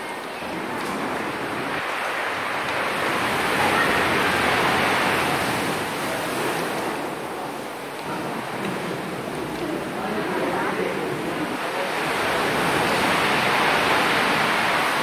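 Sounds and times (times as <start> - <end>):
sea waves surging against rocks: 0.0 - 15.0.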